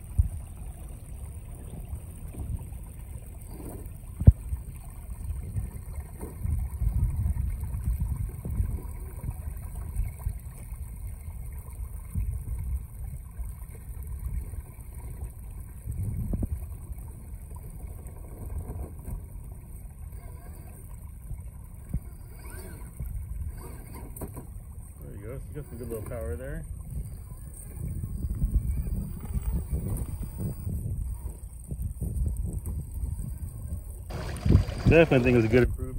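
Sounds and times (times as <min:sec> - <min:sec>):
creek water flowing: 0:00.0 - 0:35.9
toy car driving through water: 0:00.0 - 0:35.9
wind on microphone: 0:00.0 - 0:35.9.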